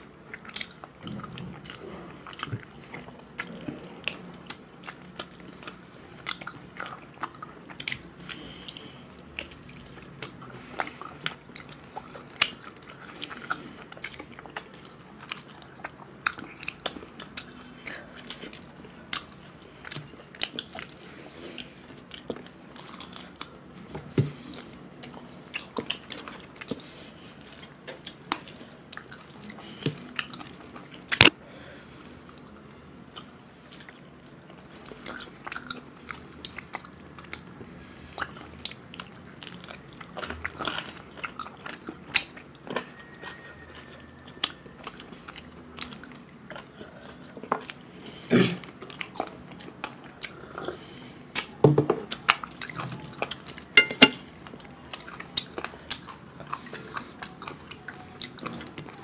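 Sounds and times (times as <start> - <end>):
people chewing and biting: 0.0 - 59.0.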